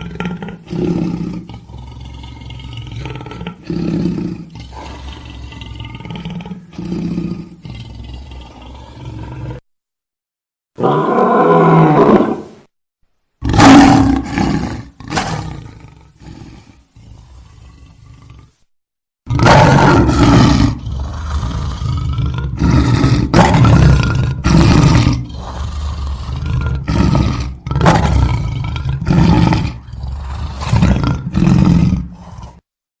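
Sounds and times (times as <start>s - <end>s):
lion roaring and grunting: 0.0s - 9.6s, 10.8s - 12.6s, 13.4s - 18.6s, 19.3s - 32.6s.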